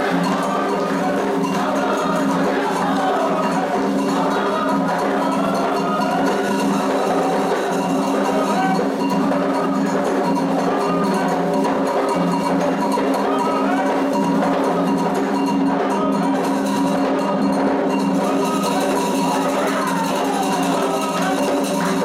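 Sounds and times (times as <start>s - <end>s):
hand drums playing: 0.0s - 22.0s
ringing bell: 0.0s - 22.0s.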